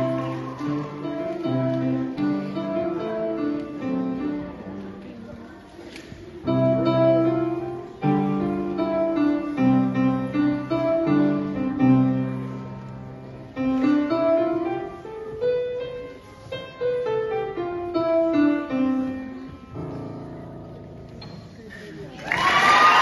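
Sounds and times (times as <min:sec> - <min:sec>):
grand piano playing: 0:00.0 - 0:05.2, 0:06.4 - 0:21.6.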